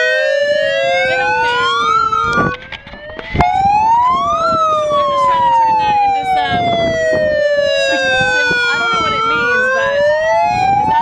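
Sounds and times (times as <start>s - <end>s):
megaphone sirens wailing: 0.0s - 11.0s.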